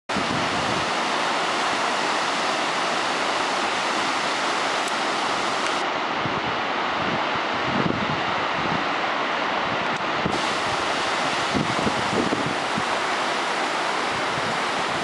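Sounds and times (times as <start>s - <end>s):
river rushing over rapids: 0.1s - 15.0s.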